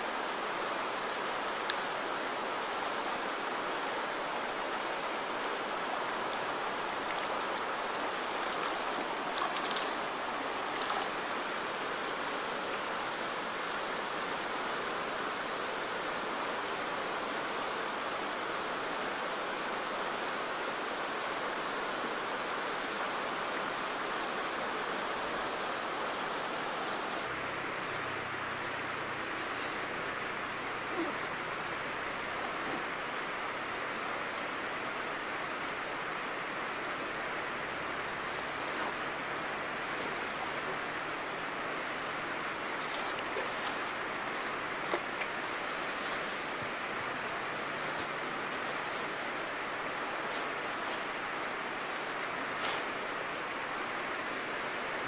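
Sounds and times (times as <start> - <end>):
river water over shallows: 0.0 - 55.0.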